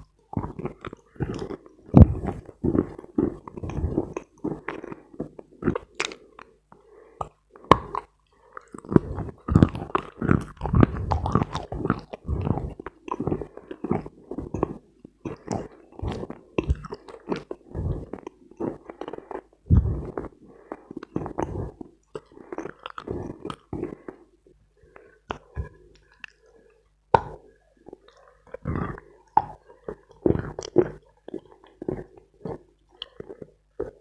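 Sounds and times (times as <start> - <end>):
chewing dry chalk crunches: 0.0 - 24.2, 24.9 - 34.0.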